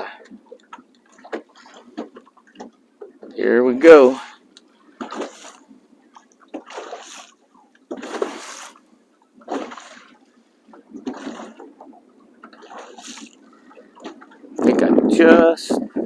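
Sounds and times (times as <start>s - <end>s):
waves splashing against boat hull: 0.0s - 16.0s.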